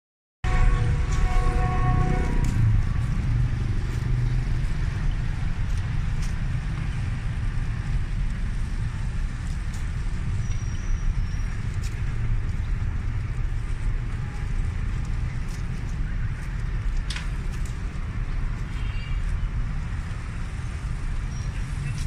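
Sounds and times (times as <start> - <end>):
low outdoor rumble: 0.4 - 22.0.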